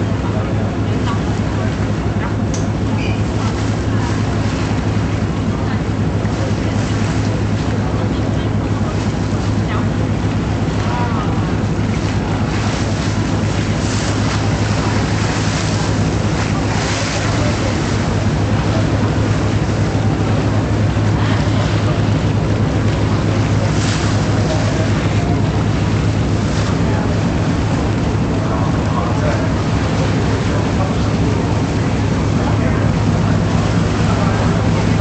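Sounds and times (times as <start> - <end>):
boat engine droning: 0.0 - 35.0
water rushing along hull: 0.0 - 35.0
water swishes: 0.0 - 35.0.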